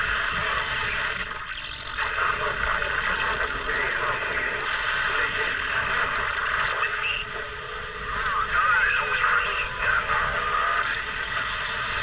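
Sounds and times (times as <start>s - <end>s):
radio static hiss: 0.0s - 12.0s
radio voices talking: 2.0s - 12.0s.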